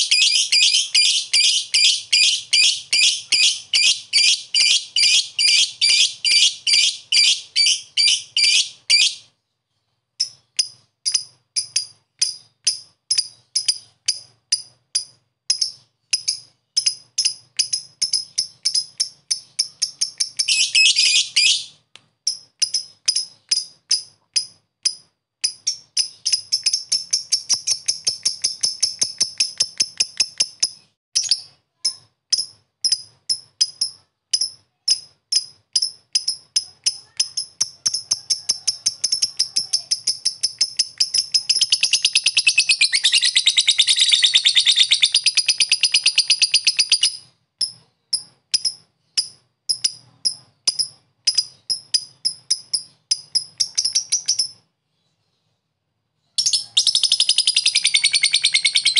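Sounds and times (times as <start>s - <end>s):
lovebird chattering trill: 0.0s - 9.2s, 10.2s - 54.6s, 56.4s - 58.9s
lovebird chipping: 0.0s - 9.3s, 10.2s - 54.6s, 56.4s - 58.9s.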